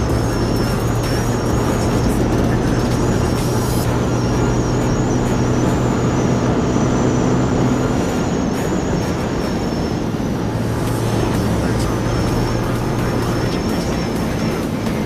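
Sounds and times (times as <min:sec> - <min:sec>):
motorcycle engine hum: 0:00.0 - 0:15.0
road and wind noise: 0:00.0 - 0:15.0.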